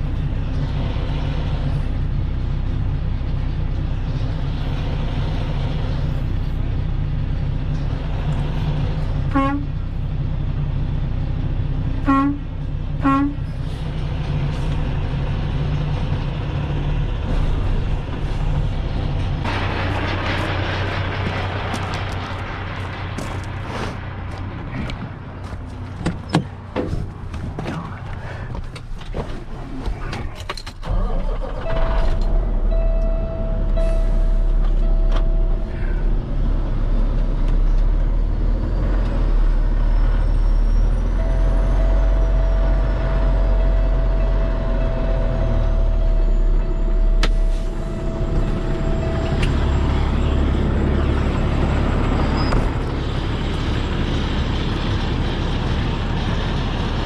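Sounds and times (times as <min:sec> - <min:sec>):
diesel engine running under load: 0:00.0 - 0:57.0
engine whine: 0:00.0 - 0:57.0.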